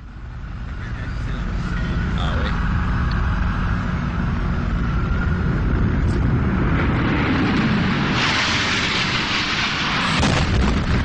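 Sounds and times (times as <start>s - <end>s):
low-flying jet engines roaring: 0.0s - 11.0s.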